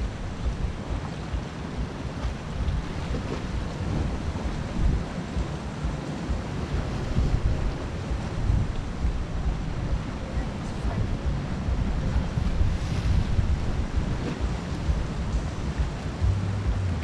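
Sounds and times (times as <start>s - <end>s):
sea washing against rocks: 0.0s - 16.3s
wind buffeting microphone: 0.0s - 17.0s.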